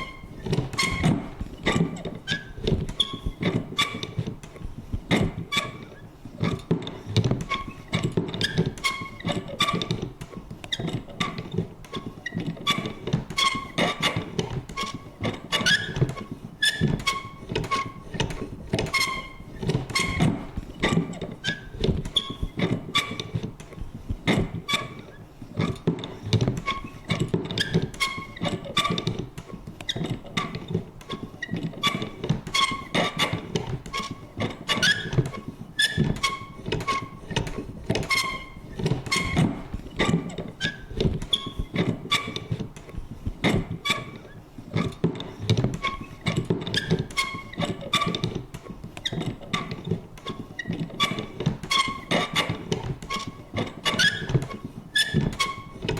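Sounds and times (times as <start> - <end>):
mechanism creaking and squeaking: 0.0 - 55.9
paper punch clicks and thunks: 0.0 - 55.9.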